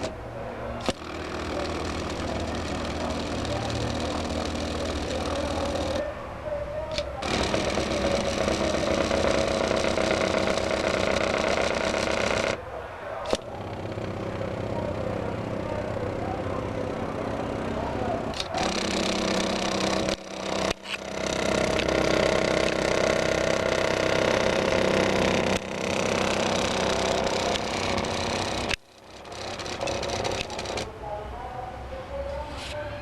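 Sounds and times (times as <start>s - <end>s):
stepper motors whining: 0.8s - 6.1s, 6.9s - 12.6s, 13.2s - 30.9s.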